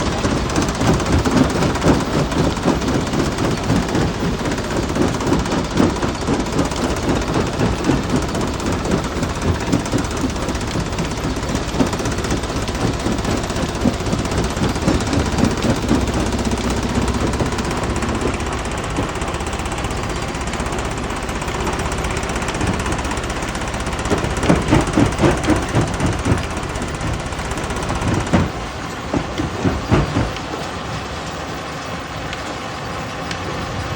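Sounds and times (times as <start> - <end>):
rock crusher clattering: 0.0 - 31.0
low machine hum: 0.0 - 33.9.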